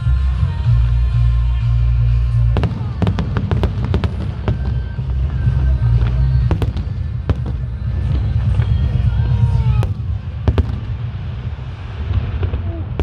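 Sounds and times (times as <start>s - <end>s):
firework sharp bangs: 2.6s - 13.0s.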